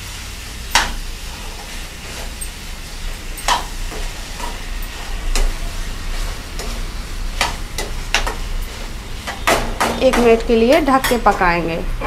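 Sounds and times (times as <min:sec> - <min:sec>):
low sizzle: 0:00.0 - 0:12.0
metal spoon scraping a pan: 0:00.7 - 0:11.5.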